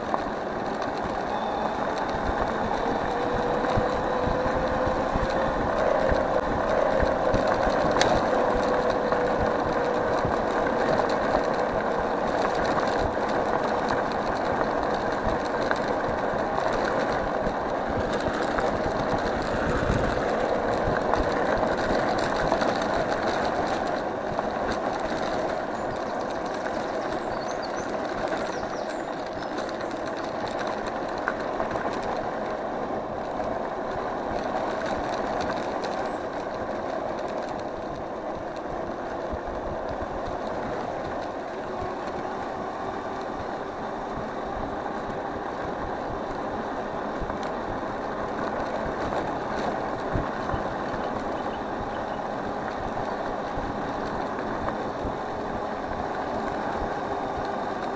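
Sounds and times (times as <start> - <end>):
electric scooter motor whine: 0.0 - 57.9
rolling tyre noise: 0.0 - 57.9.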